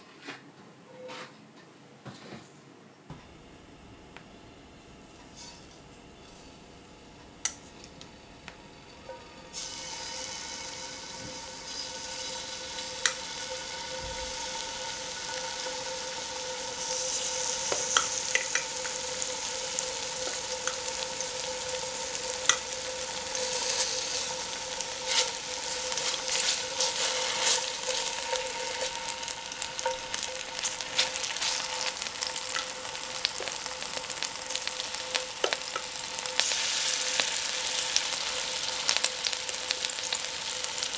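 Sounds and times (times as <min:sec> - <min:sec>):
meat sizzling in hot oil: 0:07.4 - 0:40.9.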